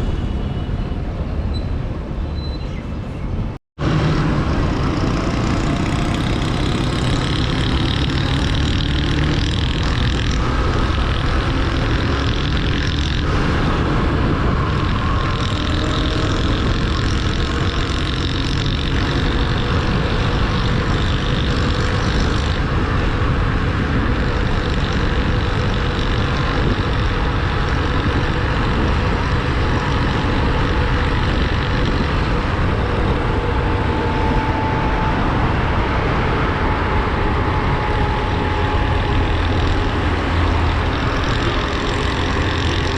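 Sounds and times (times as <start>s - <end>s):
wind and road noise: 0.0s - 42.9s
motorcycle engine running: 3.8s - 42.9s.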